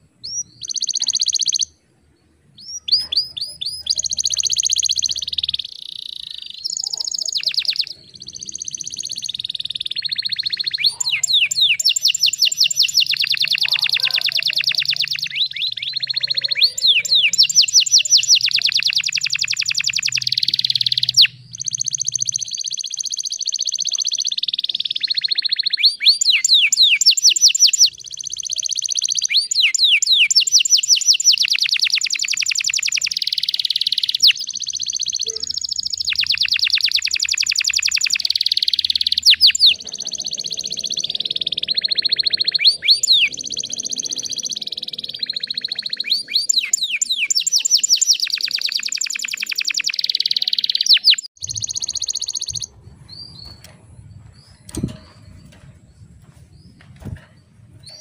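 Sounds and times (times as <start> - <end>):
canary singing trills: 0.0 - 1.8, 2.4 - 58.0.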